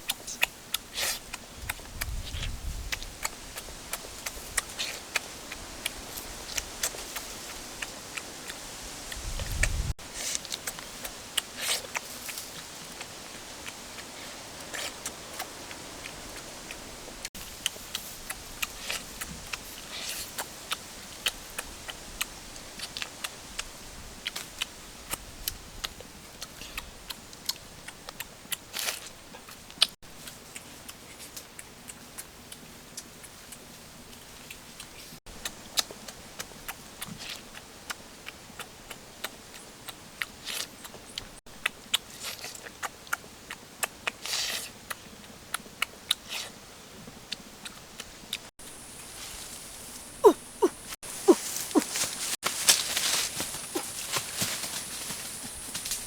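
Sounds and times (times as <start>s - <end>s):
crunchy chewing: 0.0s - 46.6s, 47.3s - 56.0s.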